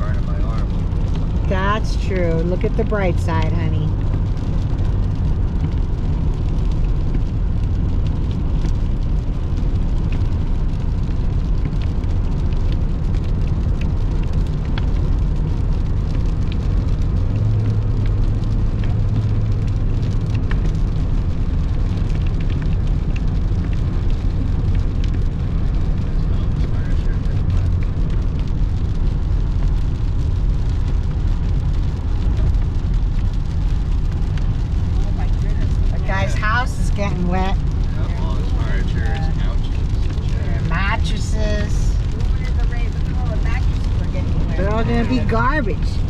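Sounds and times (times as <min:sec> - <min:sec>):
engine and tyre rumble: 0:00.0 - 0:46.0.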